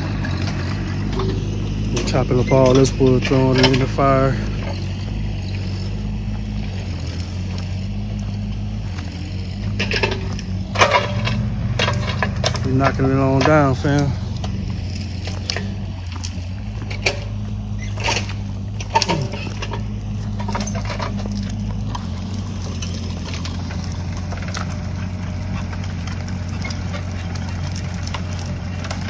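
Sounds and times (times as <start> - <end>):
excavator engine running: 0.0 - 29.0.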